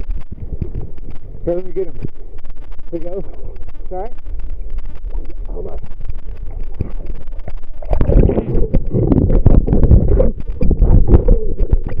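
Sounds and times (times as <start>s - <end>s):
sea water sloshing: 0.0s - 12.0s.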